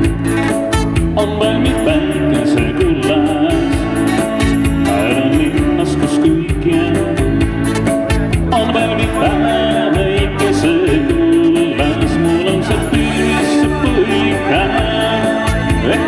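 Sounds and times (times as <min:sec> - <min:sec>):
man singing: 0:00.0 - 0:07.7, 0:08.4 - 0:16.0
acoustic guitar: 0:00.0 - 0:16.0
keyboard: 0:00.0 - 0:16.0
live band music through speakers: 0:00.0 - 0:16.0
steady beat: 0:00.0 - 0:16.0.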